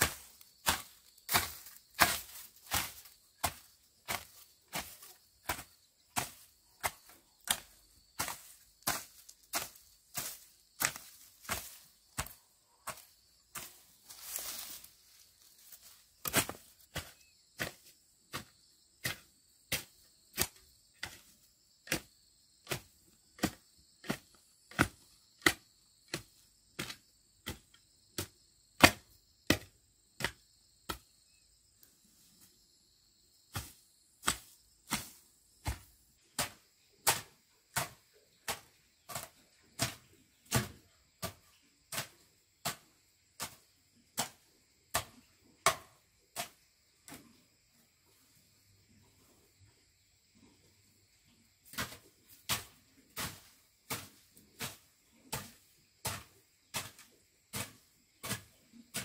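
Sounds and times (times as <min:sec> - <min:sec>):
hoe chopping into soil: 0:00.0 - 0:31.1, 0:33.5 - 0:47.4, 0:51.6 - 0:59.0.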